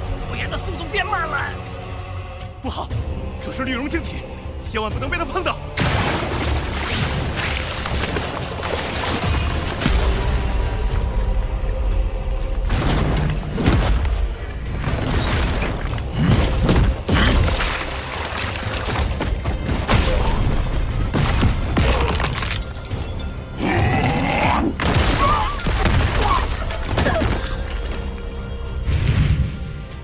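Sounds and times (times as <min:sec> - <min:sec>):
dramatic music score: 0:00.0 - 0:30.0.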